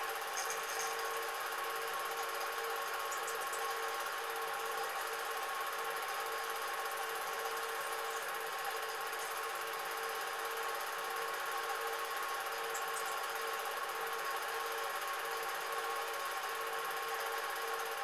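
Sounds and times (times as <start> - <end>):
film projector whirring: 0.0 - 18.0.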